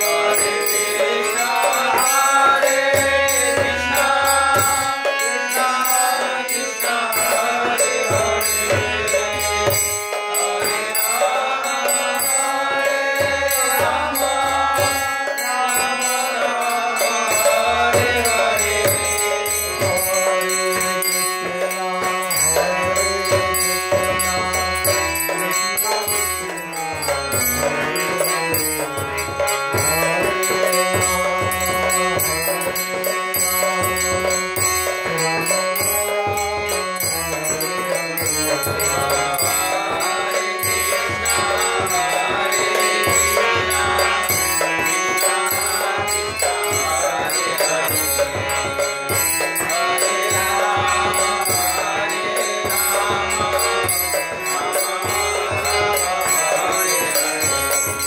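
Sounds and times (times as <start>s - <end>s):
harmonium chords: 0.0s - 58.0s
jingling percussion: 0.0s - 58.0s
man chanting: 0.0s - 58.0s.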